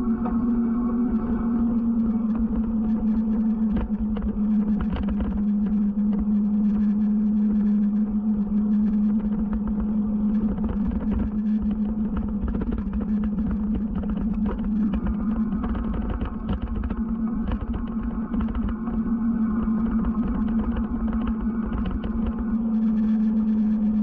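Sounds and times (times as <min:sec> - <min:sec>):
electric bike motor humming: 0:00.0 - 0:24.0
wind rumble on microphone: 0:00.0 - 0:24.0.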